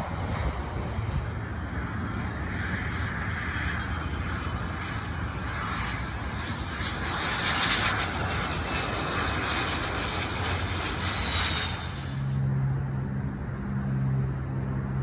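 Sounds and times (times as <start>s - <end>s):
jet flying overhead: 0.0s - 15.0s.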